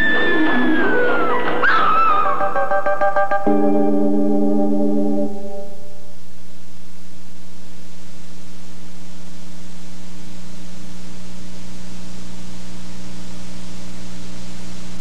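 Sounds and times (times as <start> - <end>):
video tape hiss: 0.0 - 15.0
low hum: 2.5 - 15.0.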